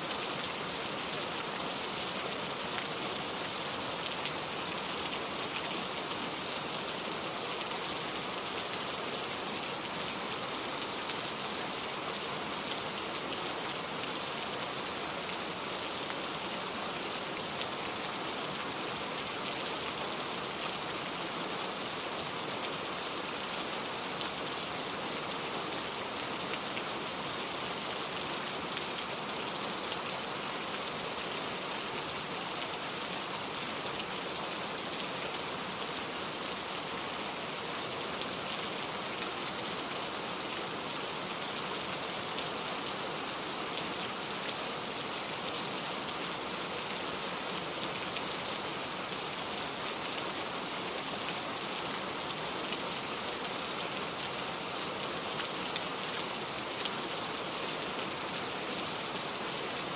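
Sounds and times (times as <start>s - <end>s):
patter of raindrops: 0.0s - 59.9s
steady rain falling: 0.0s - 59.9s.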